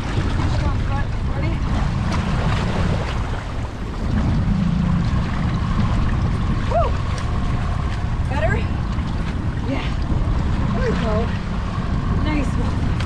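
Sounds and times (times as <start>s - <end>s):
choppy waves: 0.0s - 13.0s
wind buffeting microphone: 0.0s - 13.0s.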